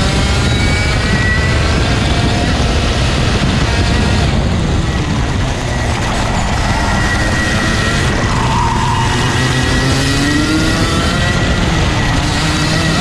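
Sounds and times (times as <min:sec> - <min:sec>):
two-stroke kart engine running: 0:00.0 - 0:13.0
wind rumble: 0:00.0 - 0:13.0.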